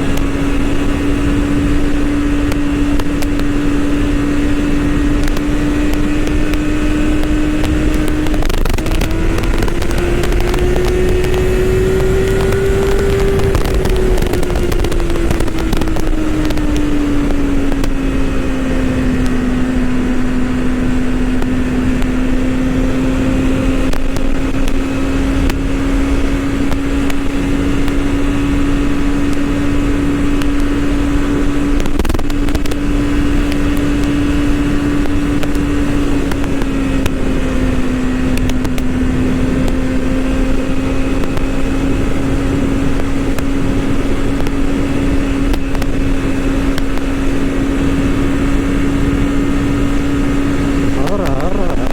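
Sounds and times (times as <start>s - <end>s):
motorcycle engine cruising: 0.0s - 51.9s
wind rush: 0.0s - 51.9s.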